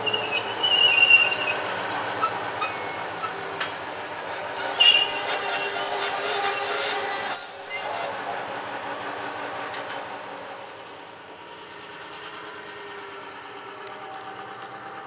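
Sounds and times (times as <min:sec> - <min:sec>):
train wheels squealing: 0:00.0 - 0:09.8, 0:10.9 - 0:15.0
diesel locomotive engine running: 0:00.0 - 0:15.0.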